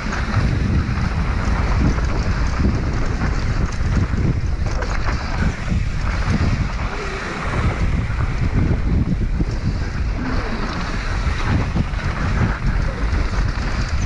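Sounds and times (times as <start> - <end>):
bike clattering over bumps: 0.0 - 14.0
tyres rumbling on dirt trail: 0.0 - 14.0
wind buffeting microphone: 0.0 - 14.0.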